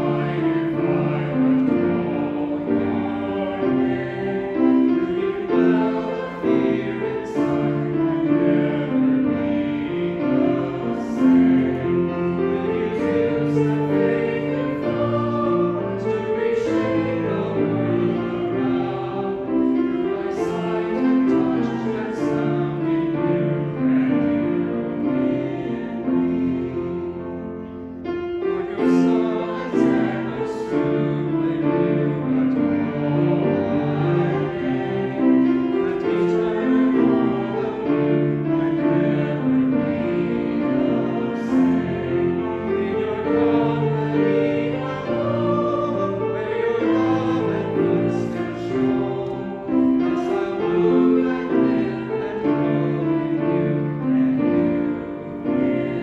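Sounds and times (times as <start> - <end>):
piano accompaniment: 0.0 - 56.0.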